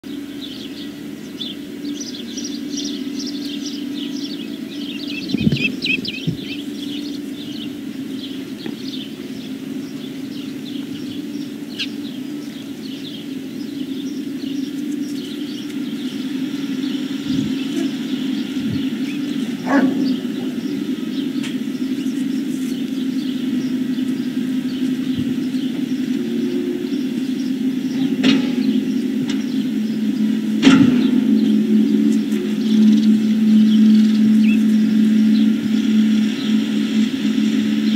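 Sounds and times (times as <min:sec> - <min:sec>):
small birds chirping: 0:00.0 - 0:37.9
steady low hum: 0:00.0 - 0:37.9.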